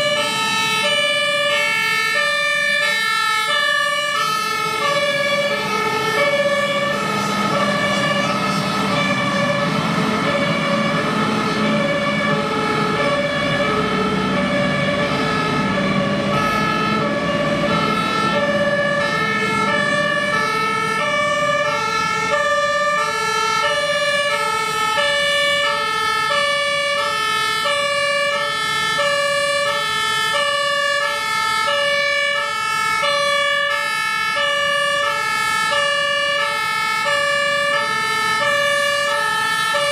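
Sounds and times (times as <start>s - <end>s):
truck engine noise: 0.0s - 39.9s
two-tone emergency siren: 0.0s - 39.9s.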